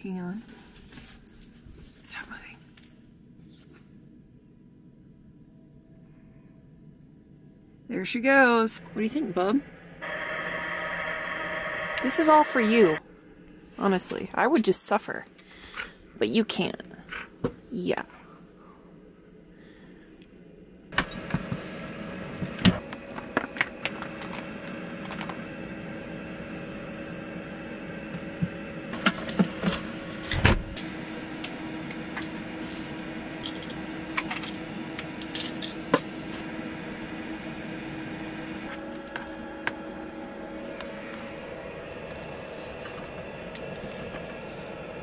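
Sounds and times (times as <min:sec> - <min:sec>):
appliance mechanical hum: 0:02.8 - 0:45.0.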